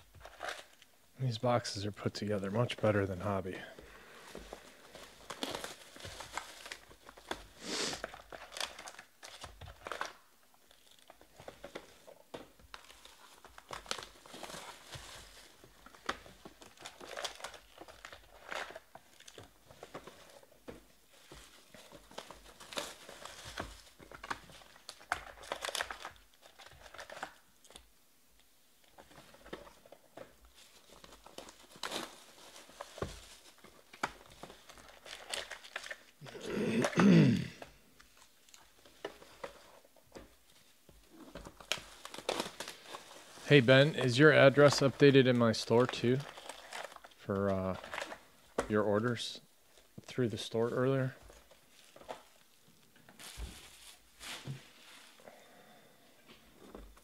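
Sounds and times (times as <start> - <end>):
foil card packs crinkling: 0.1 - 0.9, 2.2 - 27.9, 28.8 - 57.0.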